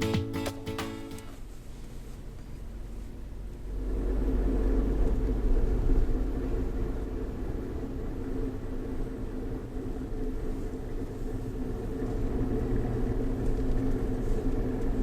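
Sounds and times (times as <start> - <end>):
vehicle engine and road rumble: 1.4 - 15.0.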